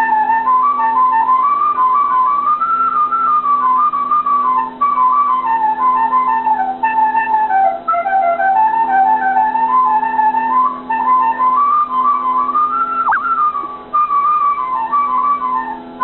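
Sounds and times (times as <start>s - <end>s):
bamboo flute playing scales: 0.0s - 16.0s.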